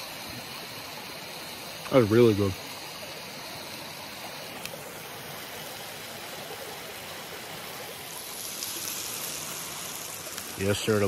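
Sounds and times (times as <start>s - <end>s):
brook running: 0.0s - 11.0s.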